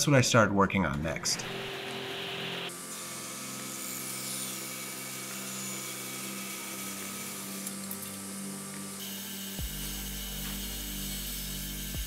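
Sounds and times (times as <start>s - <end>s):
table saw motor hum: 1.2s - 12.0s
saw blade cutting wood: 1.4s - 12.0s.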